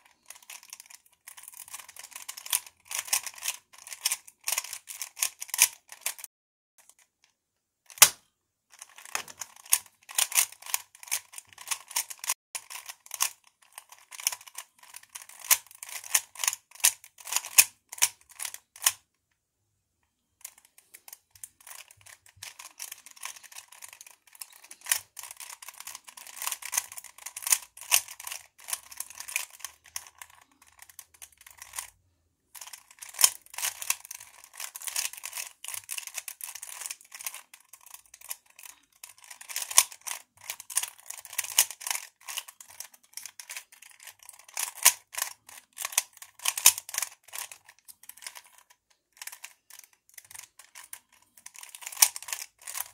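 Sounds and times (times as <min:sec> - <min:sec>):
plastic puzzle cube layers clicking: 0:00.0 - 0:07.1, 0:07.9 - 0:08.2, 0:08.8 - 0:19.1, 0:20.4 - 0:52.9.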